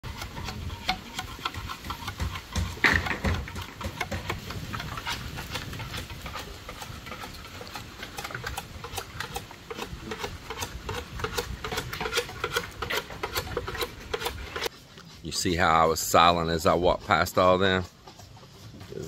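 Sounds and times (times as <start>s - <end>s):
knives clicking and scraping bamboo: 0.0s - 15.3s.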